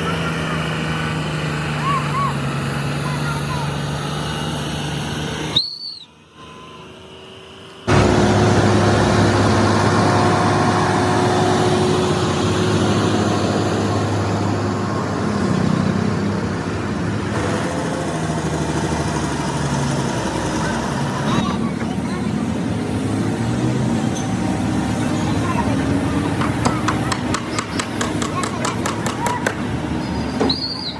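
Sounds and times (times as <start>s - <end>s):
heavy vehicle engine droning: 0.0s - 30.9s.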